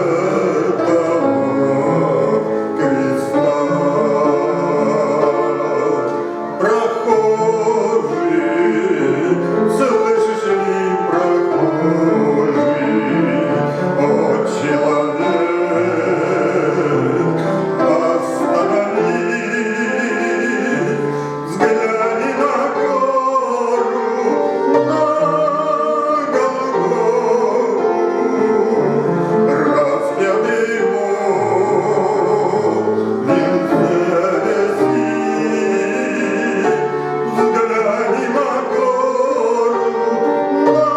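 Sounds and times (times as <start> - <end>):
instrumental accompaniment: 0.0 - 40.9
man singing a hymn with vibrato: 0.0 - 40.9.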